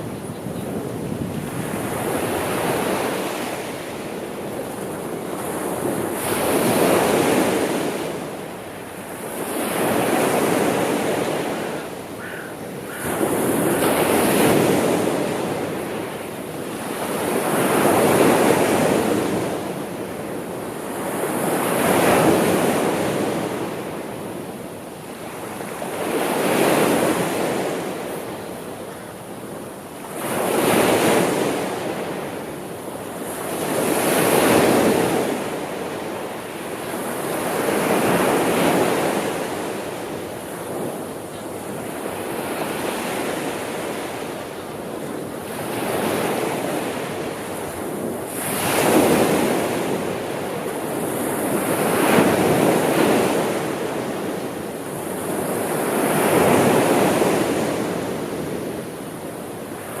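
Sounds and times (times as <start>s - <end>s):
sea waves breaking on shore: 0.0s - 60.0s
wind: 0.0s - 60.0s.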